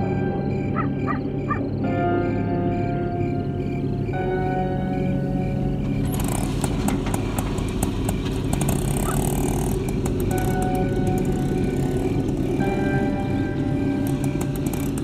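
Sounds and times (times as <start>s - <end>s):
auto-rickshaw engine rumbling: 0.0s - 15.0s
background music: 0.0s - 15.0s.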